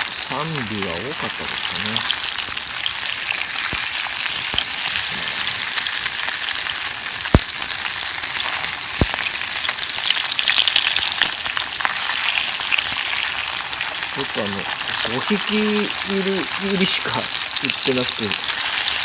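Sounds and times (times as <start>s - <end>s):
fish sizzling in a pan: 0.0s - 19.0s.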